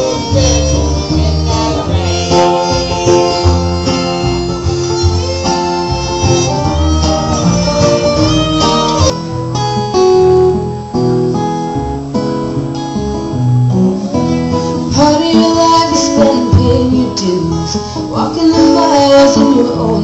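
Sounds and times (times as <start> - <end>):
bluegrass string band playing: 0.0 - 20.0
strummed acoustic guitar: 0.0 - 20.0.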